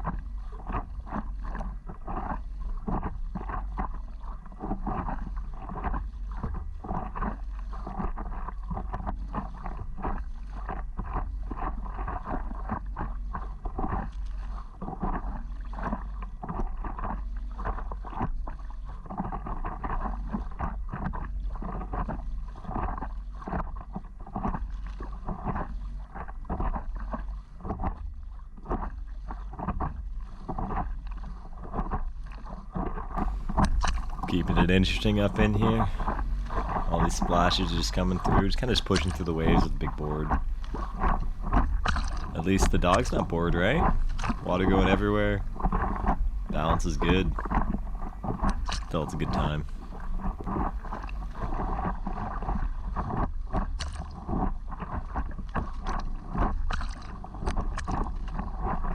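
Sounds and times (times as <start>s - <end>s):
water splashing against a board: 0.0s - 58.9s.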